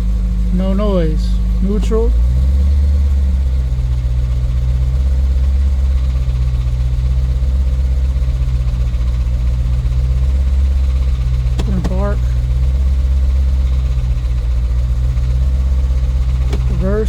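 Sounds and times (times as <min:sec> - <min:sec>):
engine idling with knocking: 0:00.0 - 0:17.0.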